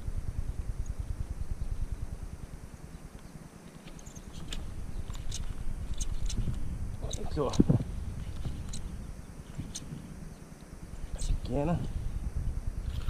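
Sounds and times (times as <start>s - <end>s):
wind buffeting microphone: 0.0s - 3.2s, 4.2s - 13.0s.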